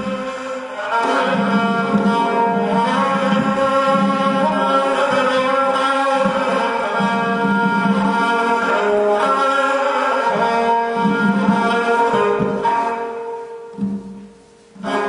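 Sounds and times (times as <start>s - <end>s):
bowed fiddle melody: 0.0s - 15.0s
hand drum strokes: 0.0s - 15.0s.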